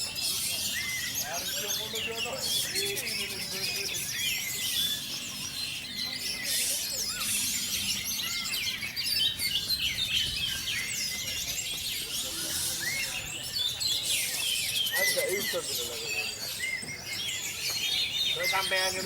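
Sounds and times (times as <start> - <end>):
thrushes singing: 0.0 - 19.0.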